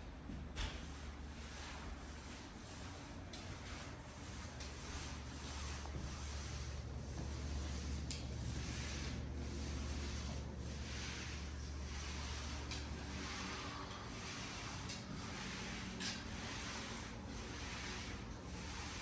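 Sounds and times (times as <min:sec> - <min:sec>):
steady low hum: 0:00.0 - 0:19.0
rubbing swishing strokes: 0:00.8 - 0:19.0.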